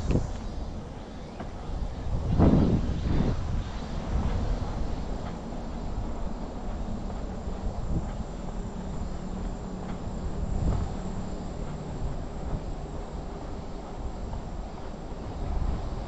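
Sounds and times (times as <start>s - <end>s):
constant low rumble: 0.0s - 16.0s
insects buzzing: 0.0s - 16.0s.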